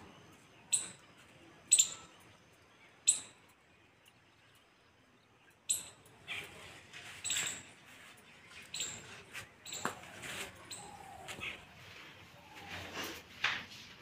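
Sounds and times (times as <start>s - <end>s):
bird chirping: 0.0s - 12.9s
faint outdoor background: 0.0s - 14.0s.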